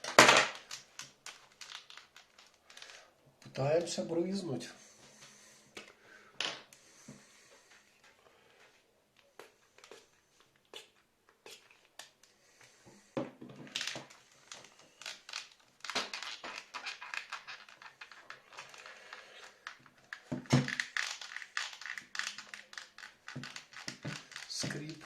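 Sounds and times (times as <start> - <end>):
plastic headphones creaking: 0.0 - 4.1, 5.7 - 25.0.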